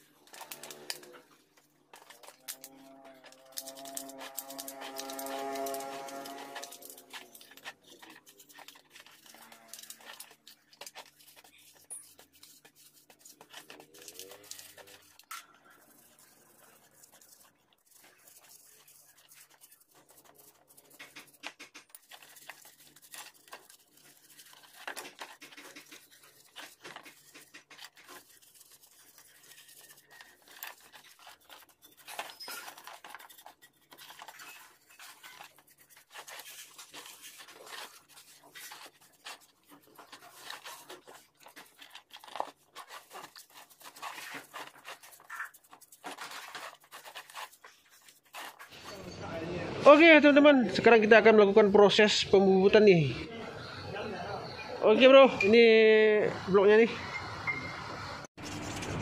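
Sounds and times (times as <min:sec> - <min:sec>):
scraping rubbing and tapping: 0:00.0 - 0:49.1, 0:58.4 - 0:59.0.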